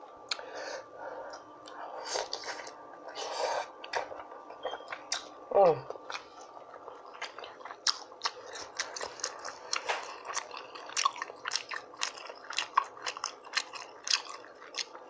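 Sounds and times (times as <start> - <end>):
person chewing food: 1.3 - 15.0.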